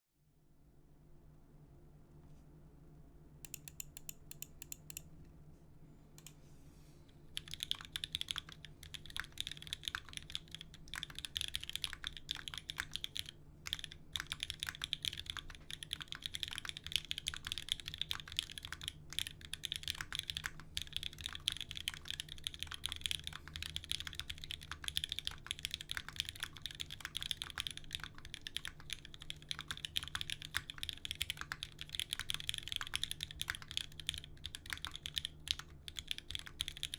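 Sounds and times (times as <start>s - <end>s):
mechanical keyboard typing: 3.5s - 5.0s, 7.3s - 36.9s.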